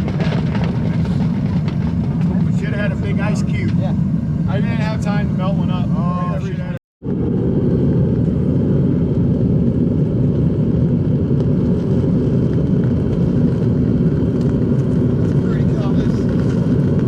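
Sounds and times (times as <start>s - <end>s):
furnace burner rushing: 0.0s - 17.0s.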